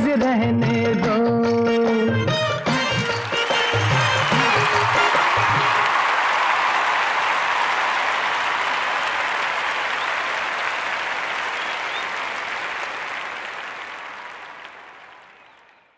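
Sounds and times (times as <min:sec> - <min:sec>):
crowd applauding: 0:02.6 - 0:15.9.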